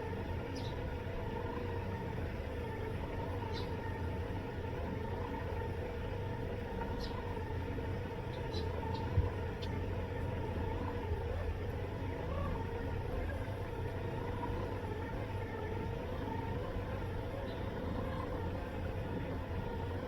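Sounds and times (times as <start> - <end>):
electric motor hum: 0.0 - 20.0.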